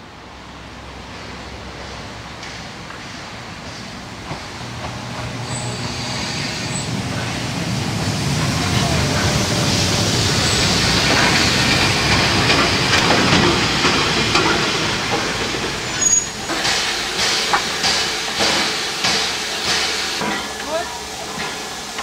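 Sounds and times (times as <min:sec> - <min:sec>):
steam train rumbling: 0:00.0 - 0:22.0
steam hissing: 0:03.2 - 0:22.0.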